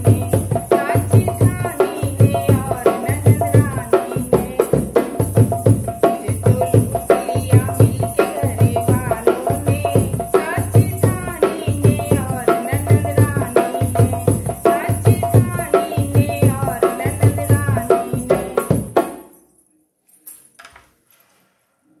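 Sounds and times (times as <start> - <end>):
woman singing folk song: 0.0 - 5.1, 6.1 - 18.9
barrel drum beat: 0.0 - 19.2.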